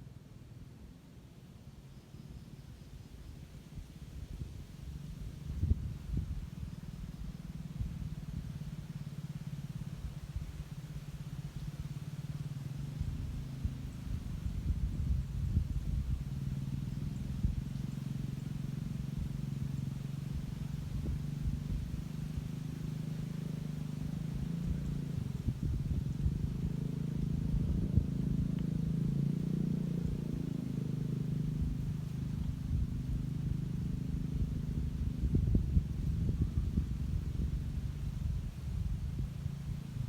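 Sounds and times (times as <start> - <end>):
wind buffeting microphone: 3.8 - 40.0
low rumbling hum: 5.2 - 40.0.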